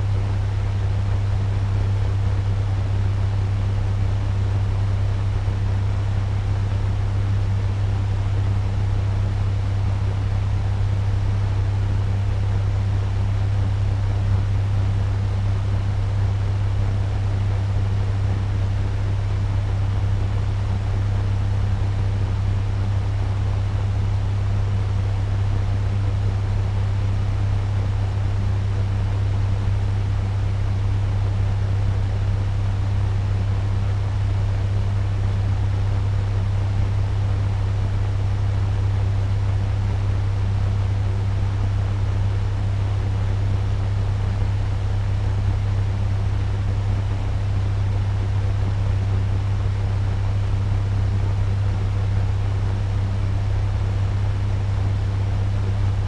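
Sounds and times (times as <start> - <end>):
fan humming with rushing air: 0.0 - 56.0.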